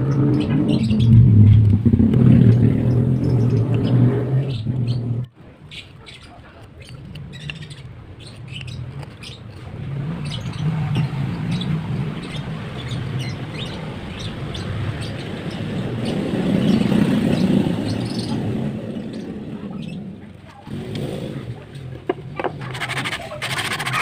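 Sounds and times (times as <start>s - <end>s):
vehicle engine rumble passing: 0.0s - 5.3s, 7.0s - 24.0s
birds chirping: 0.0s - 21.4s.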